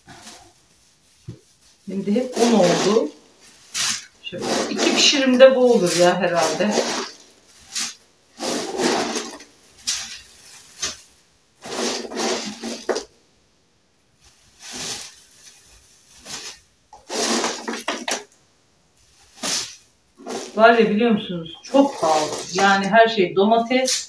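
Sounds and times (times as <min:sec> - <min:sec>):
dried noodles rustling and rattling: 0:00.0 - 0:13.1, 0:14.1 - 0:22.9
plastic bag crinkling: 0:00.0 - 0:13.1, 0:14.2 - 0:18.4, 0:19.0 - 0:24.0.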